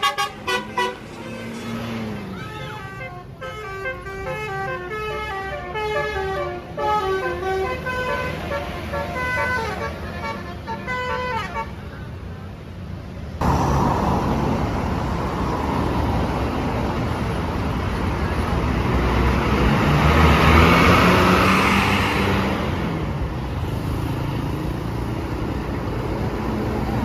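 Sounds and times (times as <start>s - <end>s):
heavy vehicle passing: 0.0s - 27.0s
road traffic noise: 0.0s - 27.0s.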